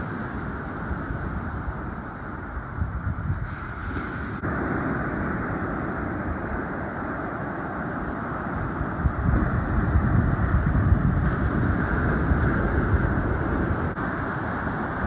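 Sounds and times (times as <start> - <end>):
rough surf rushing: 0.0 - 15.0
strong wind buffeting microphone: 0.0 - 15.0.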